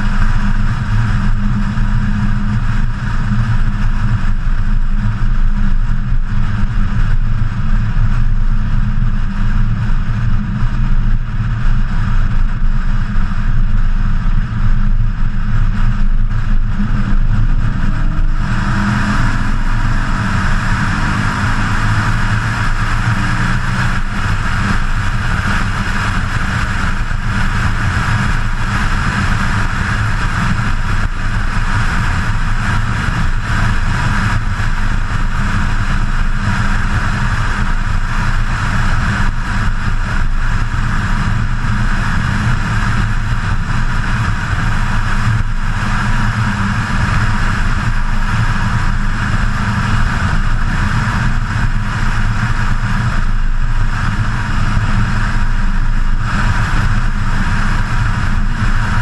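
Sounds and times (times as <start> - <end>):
car engine cruising: 0.0 - 59.0
road and wind noise: 0.0 - 59.0.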